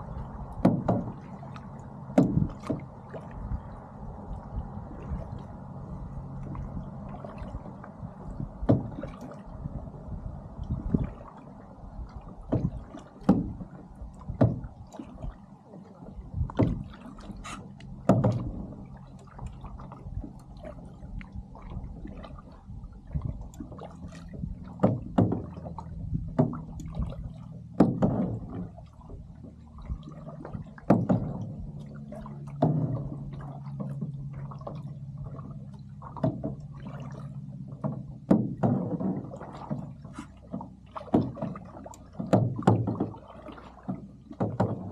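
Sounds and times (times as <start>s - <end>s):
boat engine hum: 0.0s - 44.9s
water splashing against boat: 0.0s - 44.9s.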